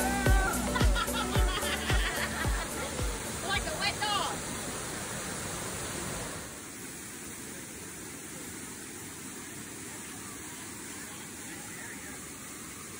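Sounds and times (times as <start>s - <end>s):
creek rushing: 0.0s - 12.9s.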